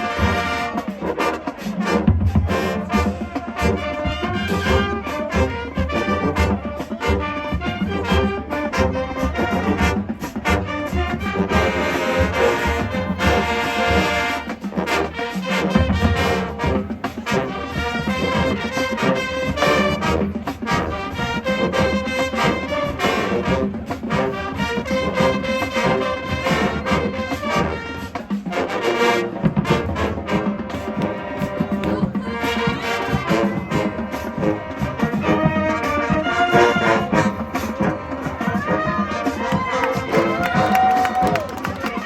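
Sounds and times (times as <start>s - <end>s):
brass section playing: 0.0s - 42.0s
drumline strikes: 0.0s - 42.0s.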